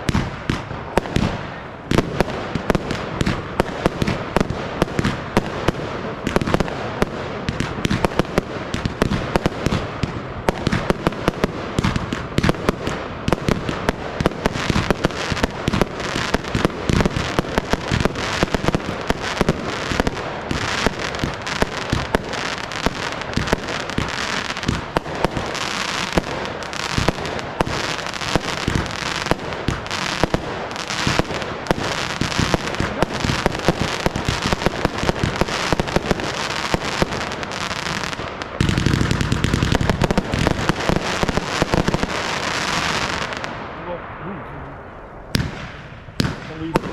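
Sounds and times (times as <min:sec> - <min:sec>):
fireworks bangs: 0:00.0 - 0:46.9.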